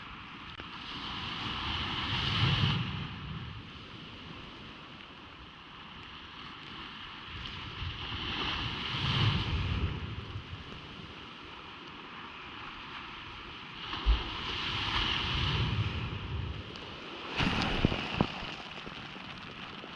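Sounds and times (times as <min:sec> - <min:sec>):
ocean waves breaking on beach: 0:00.1 - 0:19.9.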